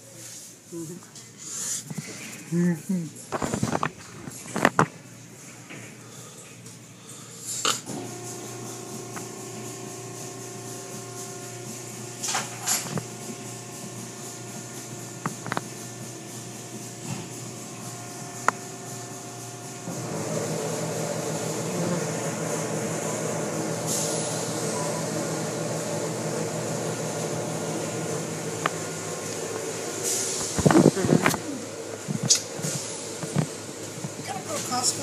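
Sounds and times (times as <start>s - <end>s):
car wash machine hum: 6.9s - 35.0s.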